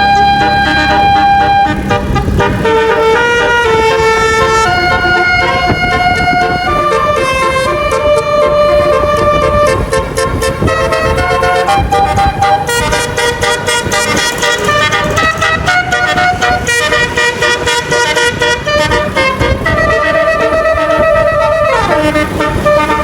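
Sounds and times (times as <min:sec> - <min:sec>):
engine and traffic noise: 0:00.0 - 0:23.0
musical air horn melody: 0:00.0 - 0:23.0.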